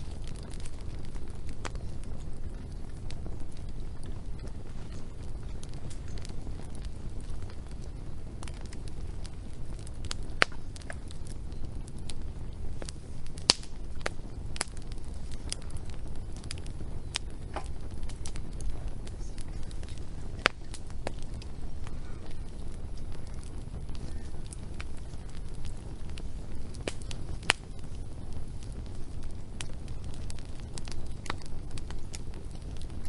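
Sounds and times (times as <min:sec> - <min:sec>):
logs popping and snapping: 0:00.0 - 0:33.0
low rumble of flames: 0:00.0 - 0:33.0
wood fire crackling: 0:00.0 - 0:33.0.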